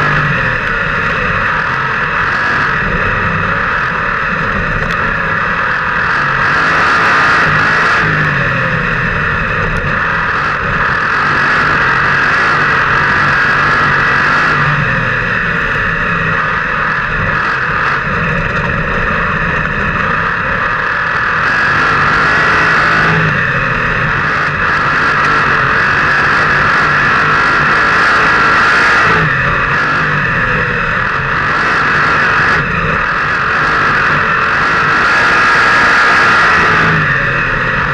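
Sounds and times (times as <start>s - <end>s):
racing car engine running hard: 0.0s - 37.9s.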